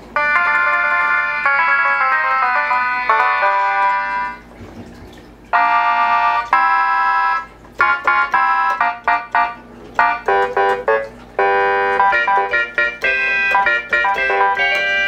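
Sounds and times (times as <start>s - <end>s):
electronic keyboard chords and notes: 0.1s - 4.5s, 5.5s - 15.0s.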